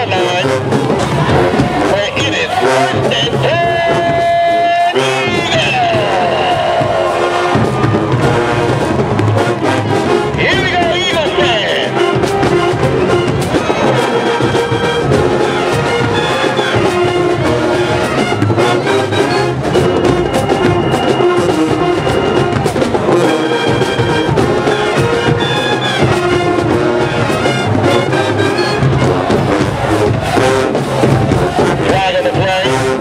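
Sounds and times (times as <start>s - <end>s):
marching band playing: 0.0s - 33.0s.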